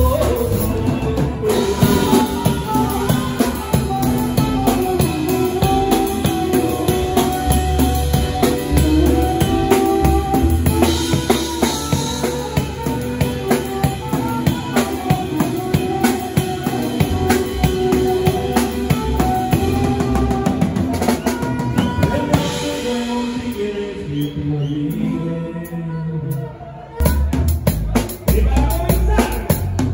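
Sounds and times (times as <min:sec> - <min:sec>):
drum kit beating rhythm: 0:00.0 - 0:24.2, 0:26.3 - 0:29.9
saxophone melody: 0:00.0 - 0:29.8.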